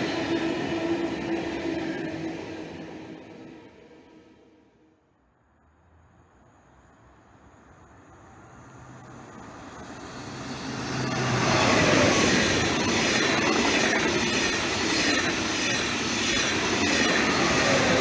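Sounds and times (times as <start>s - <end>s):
high-speed train passing: 0.0s - 5.0s, 6.5s - 18.0s.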